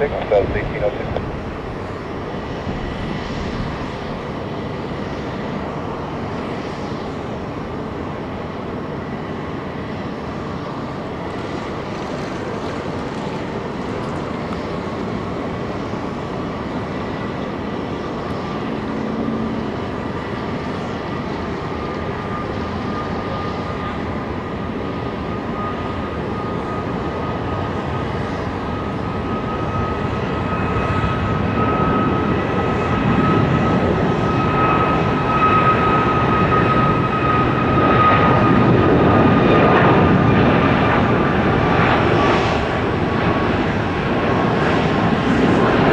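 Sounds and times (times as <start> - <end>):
high engine whine: 0.0 - 45.9
jet engines roaring: 0.0 - 45.9.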